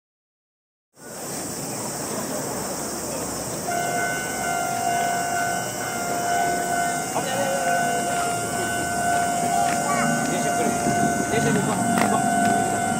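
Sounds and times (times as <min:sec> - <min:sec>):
street traffic rumble: 0:01.0 - 0:12.9
steady high pitched tone: 0:02.4 - 0:12.9.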